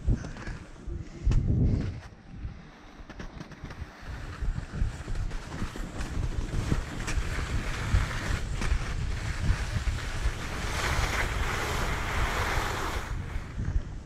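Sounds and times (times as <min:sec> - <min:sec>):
wind noise on microphone: 0:00.0 - 0:14.0
skis sliding over snow: 0:02.1 - 0:14.0.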